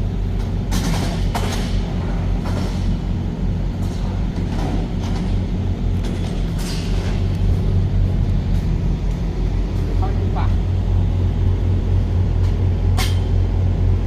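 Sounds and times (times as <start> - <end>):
road rumble: 0.0 - 14.0
truck engine drone: 0.0 - 14.0.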